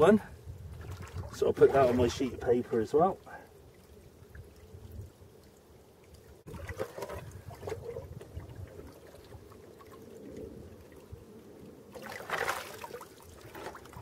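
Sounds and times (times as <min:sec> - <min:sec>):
water sloshing and splashing: 0:00.6 - 0:14.0.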